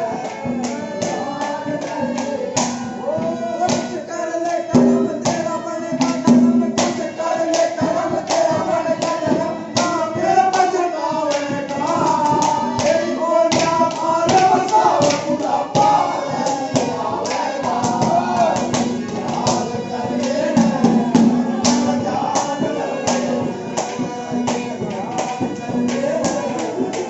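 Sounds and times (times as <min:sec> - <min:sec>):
hand-drum strokes: 0:00.0 - 0:04.1, 0:04.7 - 0:27.0
wavering folk melody: 0:00.0 - 0:27.0.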